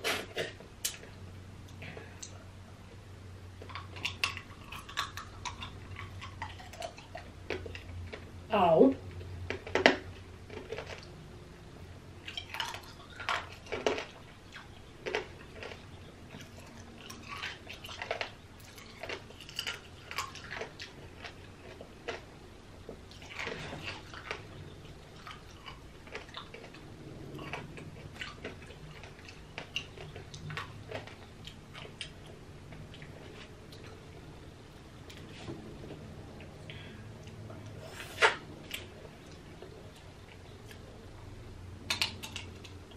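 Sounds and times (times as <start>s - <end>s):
chewing: 3.6s - 8.3s, 9.0s - 11.2s, 12.2s - 41.0s.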